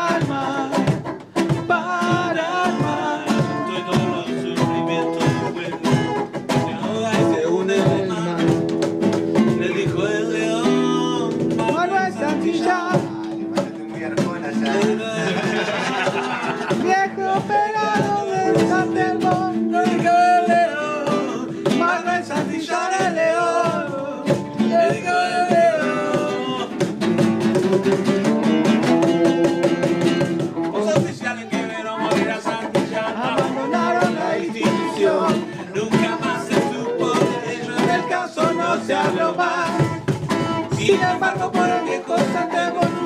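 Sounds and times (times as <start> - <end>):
people singing: 0.0 - 27.3, 29.8 - 43.0
acoustic guitar strumming: 0.0 - 43.0
cajon beat: 0.0 - 43.0.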